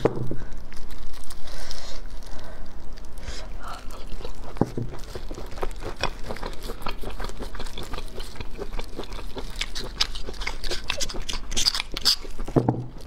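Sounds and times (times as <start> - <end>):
wet chewing and mouth smacks: 2.0 - 13.0.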